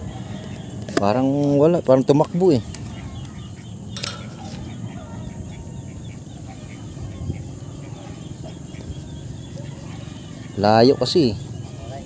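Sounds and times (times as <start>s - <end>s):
ducks calling: 0.0s - 12.0s.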